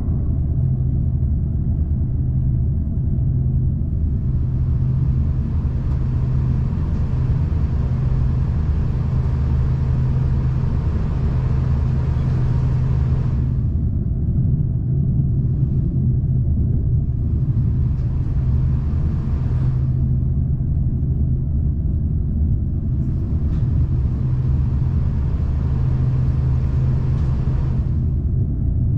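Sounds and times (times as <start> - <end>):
train rumble and engine hum: 0.0 - 28.9.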